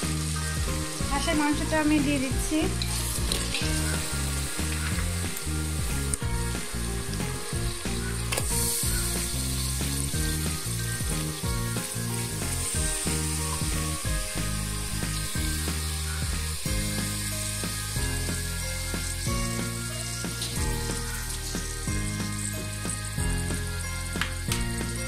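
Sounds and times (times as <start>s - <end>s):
background music: 0.0s - 25.0s
meat sizzling in oil: 0.0s - 25.0s.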